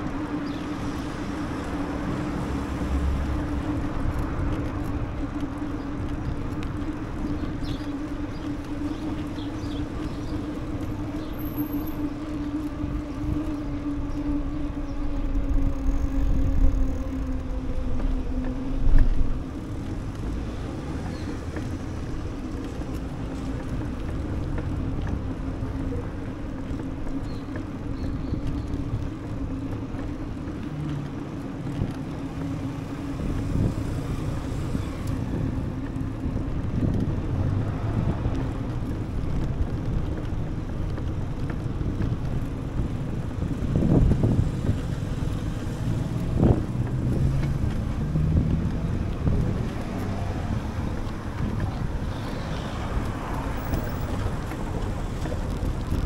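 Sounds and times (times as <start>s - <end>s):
low rolling hum: 0.0s - 56.0s
wind rushing over microphone: 0.0s - 56.0s.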